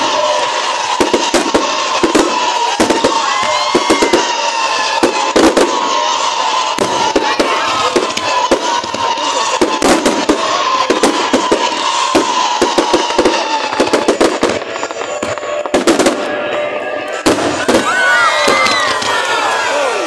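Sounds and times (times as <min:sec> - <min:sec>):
fireworks bangs and crackles: 0:00.0 - 0:20.0
whistling fireworks: 0:00.0 - 0:20.0.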